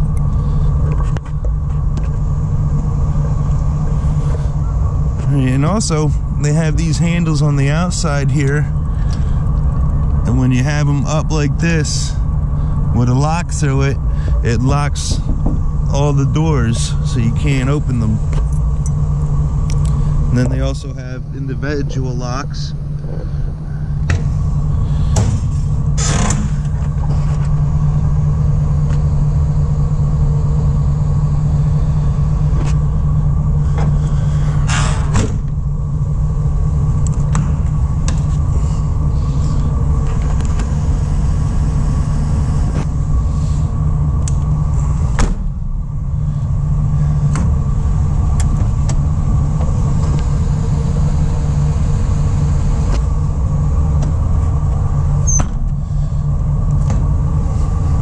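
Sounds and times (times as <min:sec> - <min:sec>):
van engine idling: 0:00.0 - 0:58.0.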